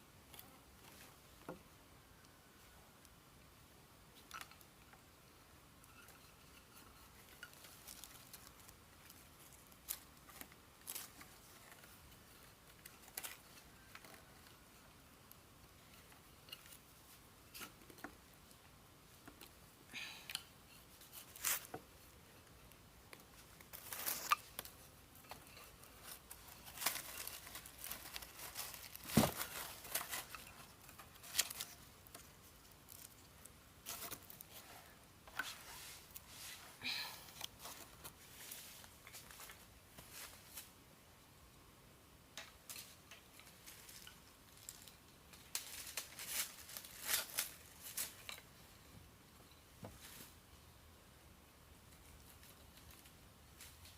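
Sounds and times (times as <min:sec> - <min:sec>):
crackling rustling handling noise: 0:00.0 - 0:41.2, 0:42.3 - 0:53.9.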